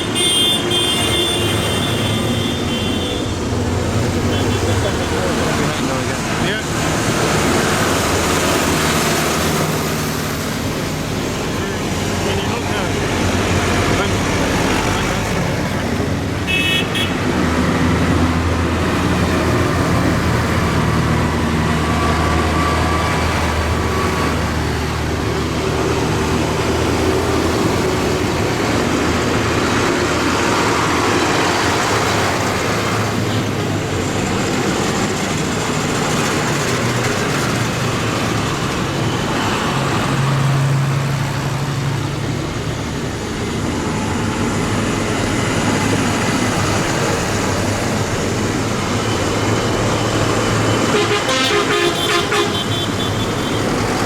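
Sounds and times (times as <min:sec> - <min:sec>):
road noise: 0:00.0 - 0:54.0
tractor engines passing: 0:00.0 - 0:54.0.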